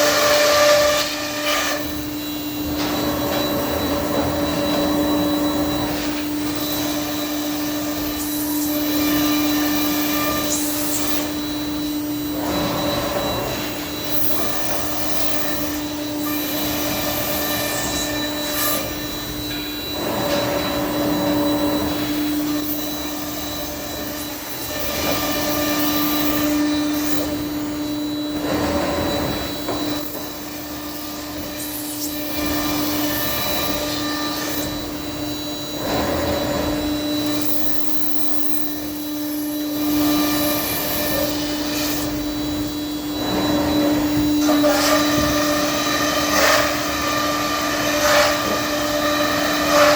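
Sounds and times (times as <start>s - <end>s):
router spindle whine: 0.0s - 49.9s.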